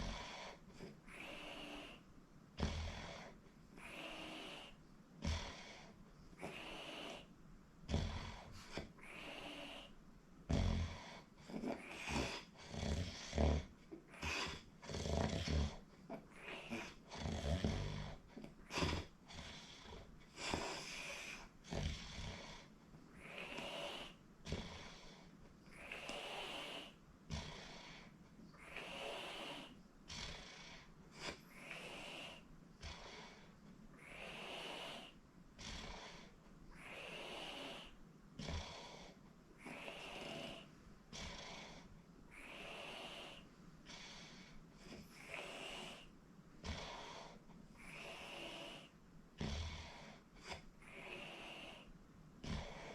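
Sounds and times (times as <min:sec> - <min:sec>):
short snorts: 0:00.0 - 0:02.0, 0:07.9 - 0:52.9.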